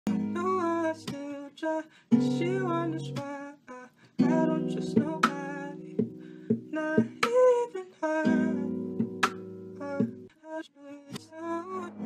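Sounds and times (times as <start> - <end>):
guitar-led song: 0.1 - 10.3, 11.1 - 12.0.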